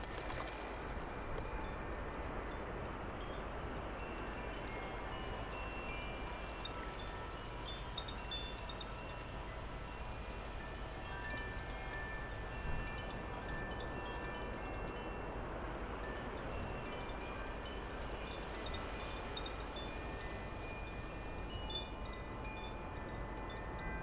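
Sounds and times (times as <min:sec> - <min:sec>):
wind chimes ringing: 0:00.0 - 0:24.0.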